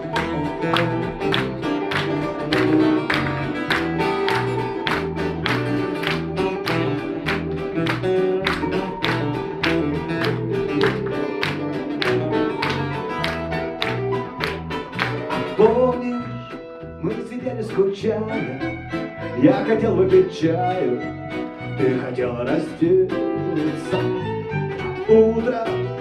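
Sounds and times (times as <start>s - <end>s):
pulsing bass line: 0.0s - 23.6s
acoustic guitar strumming: 0.0s - 26.0s
held melody notes: 0.0s - 26.0s.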